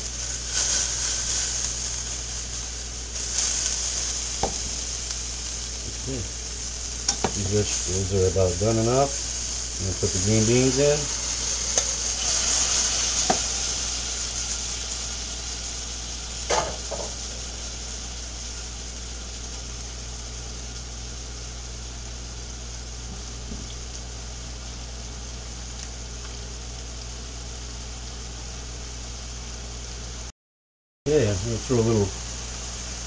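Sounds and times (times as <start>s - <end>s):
food sizzling in skillets: 0.0s - 30.3s, 31.1s - 33.0s.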